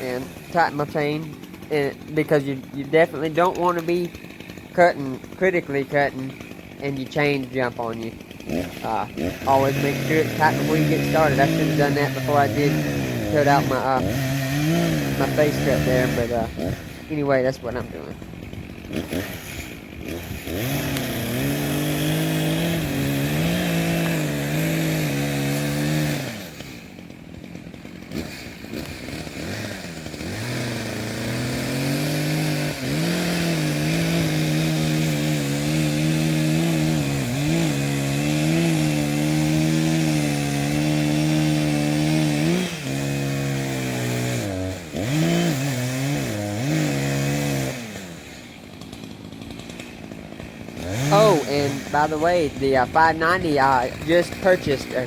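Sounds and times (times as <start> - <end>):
chainsaw cutting into tree trunk: 0.0 - 55.0.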